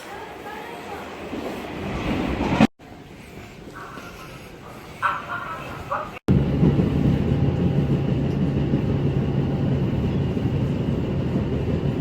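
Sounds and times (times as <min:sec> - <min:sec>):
train rumbling: 0:00.2 - 0:12.0.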